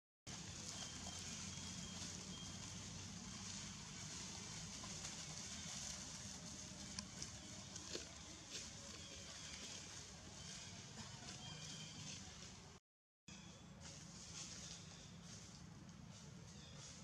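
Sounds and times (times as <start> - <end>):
crackles of dry leaves: 0.3 - 17.0.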